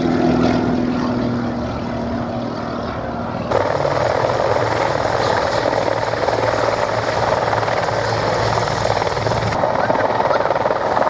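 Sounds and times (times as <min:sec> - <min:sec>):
helicopter flying by: 0:00.0 - 0:11.0
propeller aircraft engine drone: 0:00.0 - 0:11.0.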